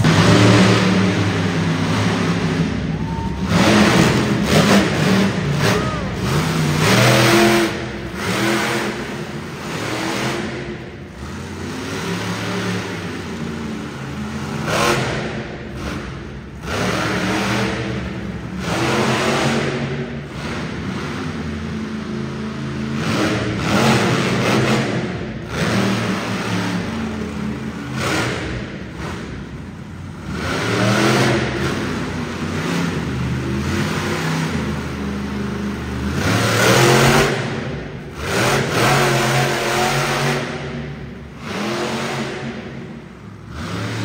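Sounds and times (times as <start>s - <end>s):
truck engine revving: 0.0s - 44.0s.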